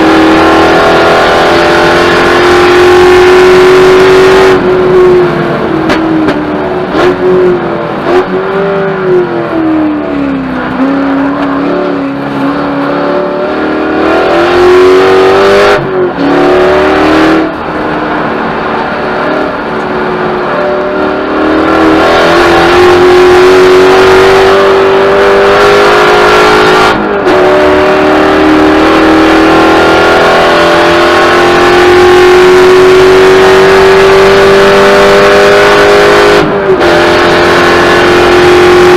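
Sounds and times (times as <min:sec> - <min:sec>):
car engine at racing speed: 0:00.0 - 0:38.9.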